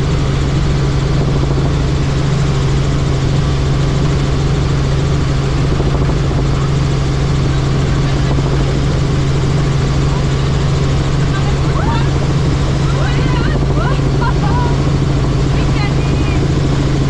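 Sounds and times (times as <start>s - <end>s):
helicopter rotor and engine: 0.0s - 17.0s.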